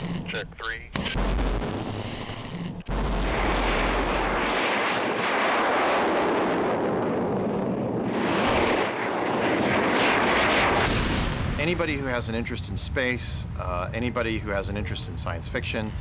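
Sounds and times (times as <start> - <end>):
rocket engine roaring: 0.0 - 16.0.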